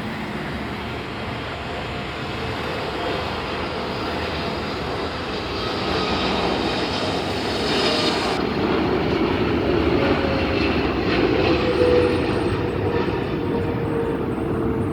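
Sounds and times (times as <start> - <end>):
jet engines roaring: 0.0 - 14.9.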